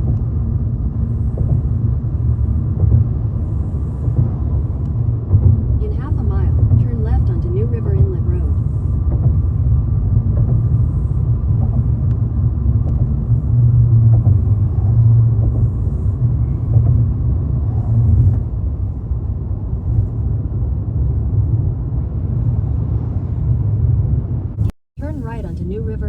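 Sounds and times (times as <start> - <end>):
road and engine rumble in car: 0.0 - 26.0.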